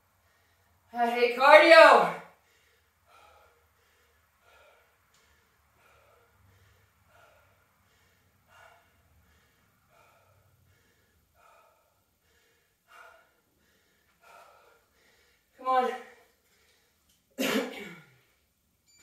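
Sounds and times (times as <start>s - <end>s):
woman breathing heavily: 0.0s - 0.9s, 2.2s - 17.4s.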